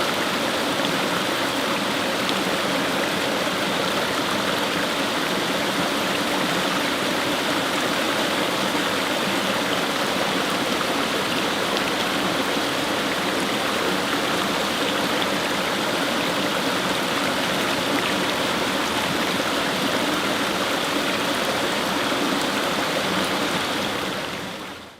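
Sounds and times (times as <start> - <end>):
water rushing over stones: 0.0 - 24.9.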